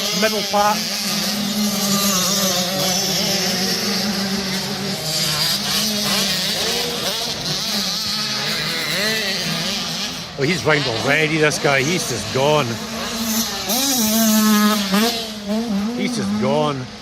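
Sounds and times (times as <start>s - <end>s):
dirt bike engines racing: 0.0s - 17.0s
distant drone of bikes: 0.0s - 17.0s.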